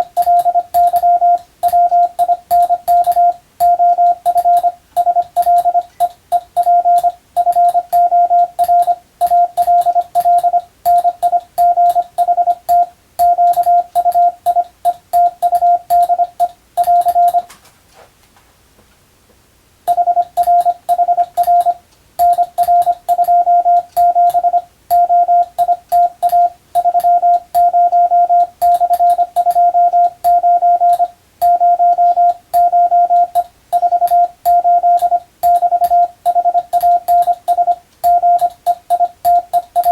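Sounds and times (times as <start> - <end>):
morse code tone: 0.0 - 17.5, 19.9 - 39.9.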